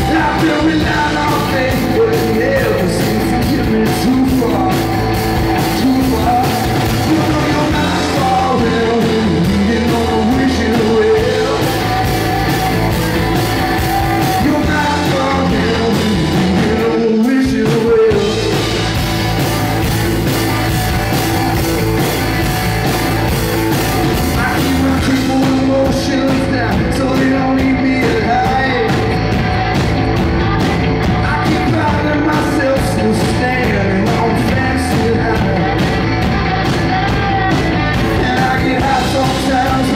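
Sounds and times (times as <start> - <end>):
bass guitar: 0.0 - 39.9
drums: 0.0 - 39.9
electric guitars: 0.0 - 39.9.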